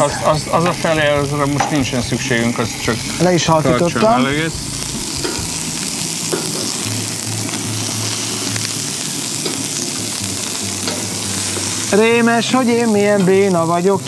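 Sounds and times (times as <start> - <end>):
shrimp sizzling on griddle: 0.0 - 14.0.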